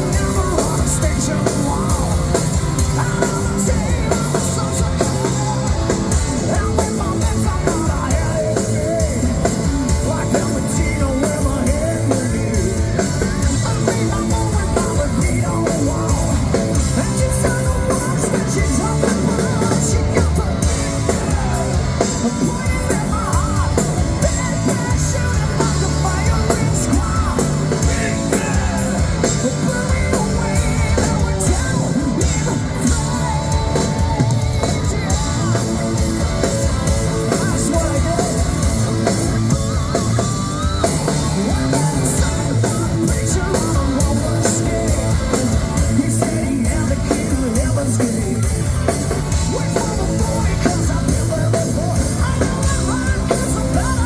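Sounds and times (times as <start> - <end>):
hard rock band playing: 0.0 - 54.0
singer yelling and singing: 0.0 - 54.0.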